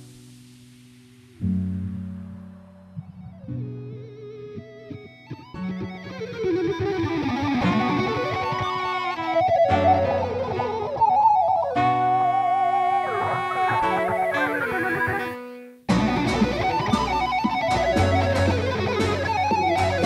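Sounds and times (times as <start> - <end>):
electric guitar instrumental: 1.3 - 20.0.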